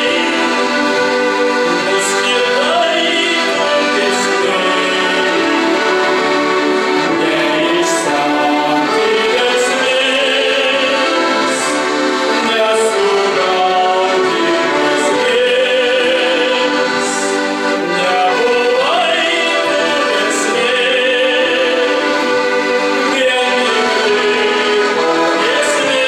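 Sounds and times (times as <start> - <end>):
instrumental accompaniment: 0.0 - 26.0
men singing with vibrato: 0.0 - 26.0.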